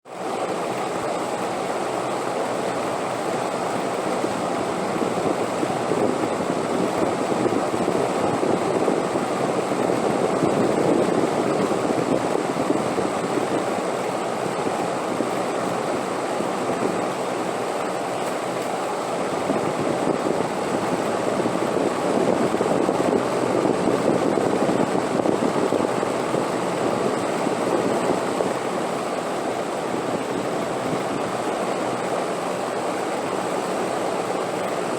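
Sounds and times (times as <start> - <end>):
wind blowing: 4.2 - 34.9.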